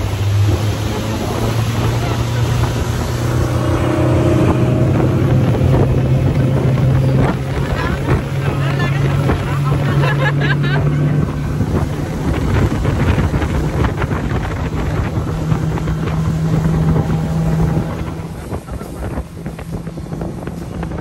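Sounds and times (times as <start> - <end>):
engine drone: 0.0 - 21.0
wind buffeting microphone: 0.0 - 21.0.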